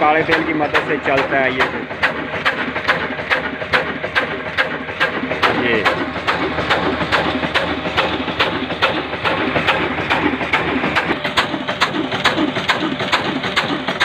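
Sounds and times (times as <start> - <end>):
oil engine knocking: 0.0 - 14.0.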